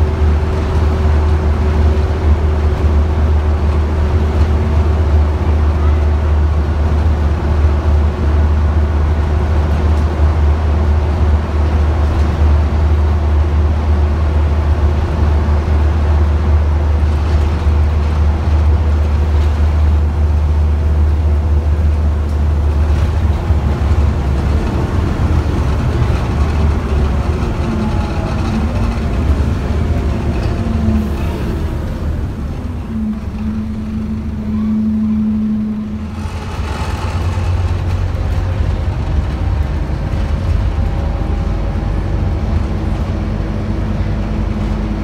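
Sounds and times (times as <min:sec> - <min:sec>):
bus engine drone: 0:00.0 - 0:45.0
road noise: 0:00.0 - 0:45.0.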